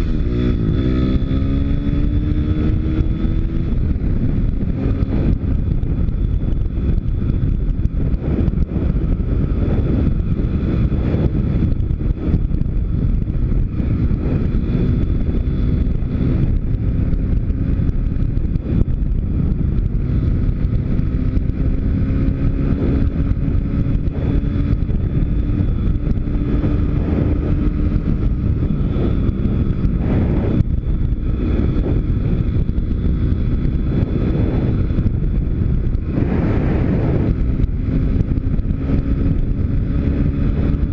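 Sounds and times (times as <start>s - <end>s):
motorbike engine running: 0.0s - 40.9s
wind buffeting microphone: 0.0s - 40.9s.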